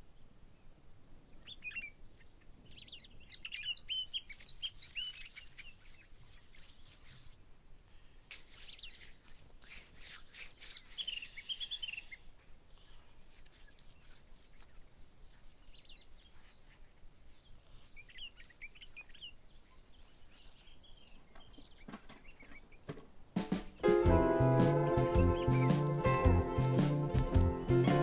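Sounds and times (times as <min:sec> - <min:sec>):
small birds twittering faintly: 0:00.0 - 0:28.0.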